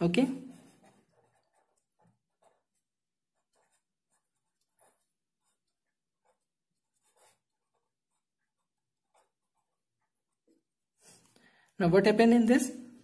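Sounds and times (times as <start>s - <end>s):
pen scratching on paper: 0.0s - 11.4s.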